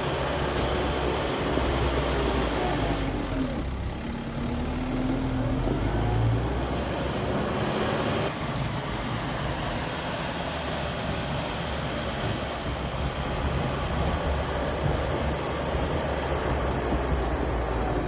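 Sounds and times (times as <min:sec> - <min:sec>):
diesel tractor engine droning: 0:00.0 - 0:18.0.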